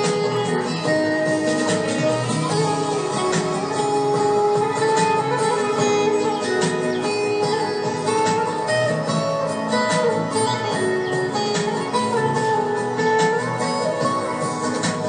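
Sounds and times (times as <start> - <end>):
instrumental music with plucked strings: 0.0 - 15.0.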